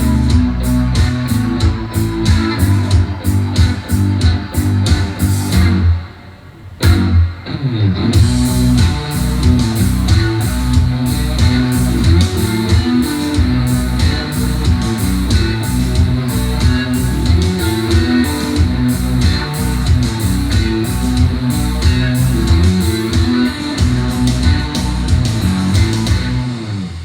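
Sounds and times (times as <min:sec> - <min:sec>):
guitar rock music over speakers: 0:00.0 - 0:27.0.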